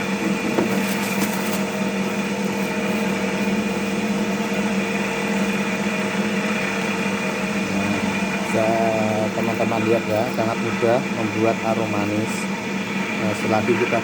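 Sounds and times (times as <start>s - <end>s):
cotton candy machine whirring: 0.0s - 14.0s.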